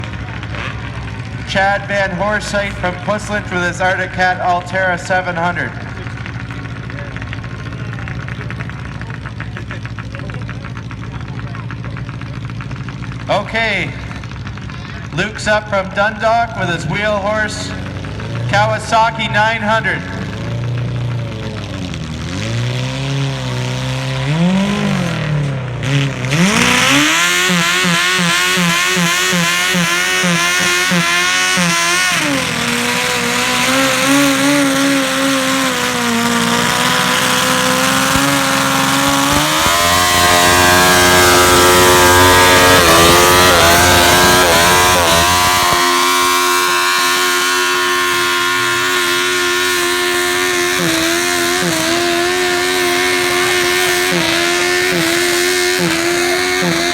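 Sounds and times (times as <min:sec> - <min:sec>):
motorcycle engine revving hard: 0:00.0 - 0:56.9.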